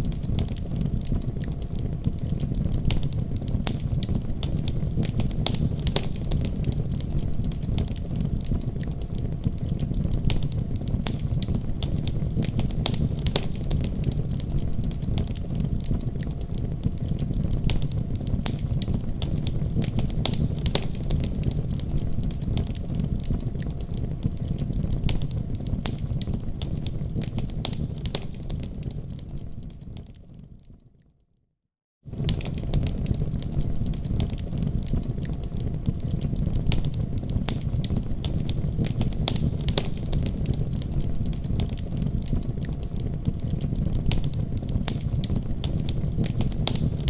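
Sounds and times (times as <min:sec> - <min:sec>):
fire rumbling in fireplace: 0:00.0 - 0:30.8, 0:32.0 - 0:47.0
fire crackling and popping: 0:00.0 - 0:31.0, 0:32.1 - 0:47.0.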